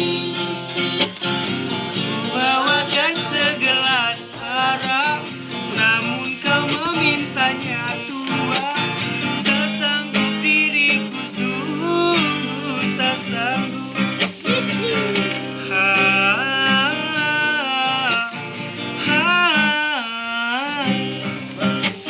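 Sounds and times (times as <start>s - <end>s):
acoustic guitar: 0.0s - 22.0s
person singing: 1.9s - 22.0s.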